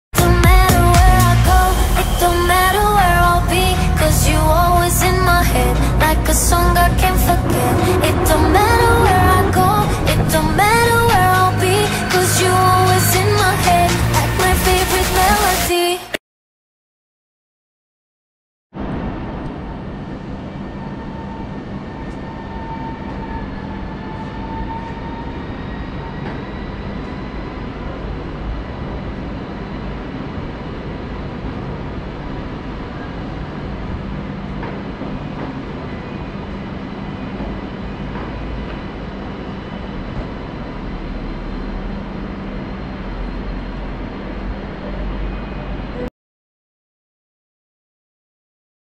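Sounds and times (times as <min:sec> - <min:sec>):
electric train rumbling: 0:00.2 - 0:15.6, 0:18.8 - 0:46.1.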